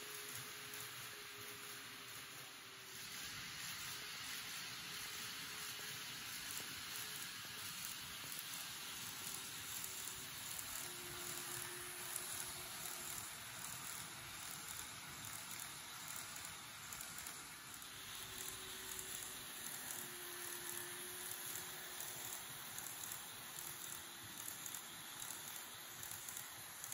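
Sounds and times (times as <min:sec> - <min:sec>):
model train rolling hiss: 0:00.0 - 0:26.9.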